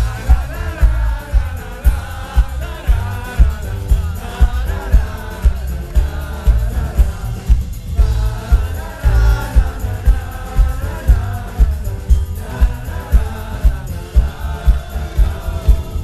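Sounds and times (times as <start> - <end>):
kick drum beat: 0.0 - 16.0
live band music: 0.0 - 16.0
person singing: 0.0 - 16.0.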